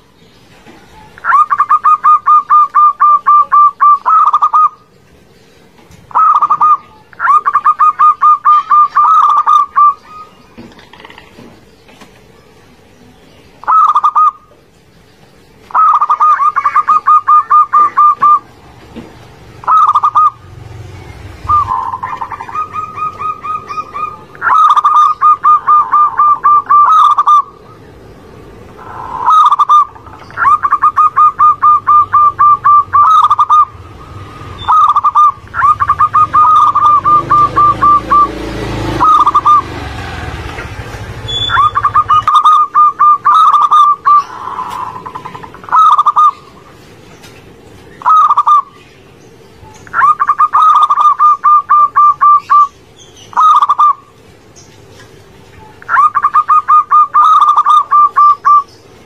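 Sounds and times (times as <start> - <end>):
dove cooing song: 0.0 - 12.8, 13.6 - 14.7, 15.6 - 59.0.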